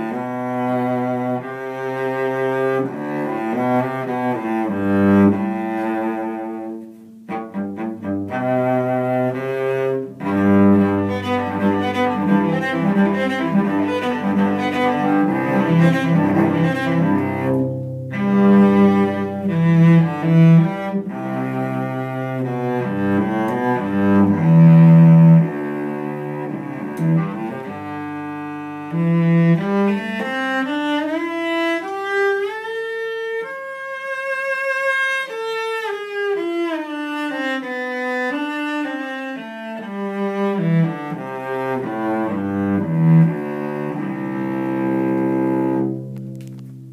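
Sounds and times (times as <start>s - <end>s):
bowed cello playing: 0.0s - 46.9s.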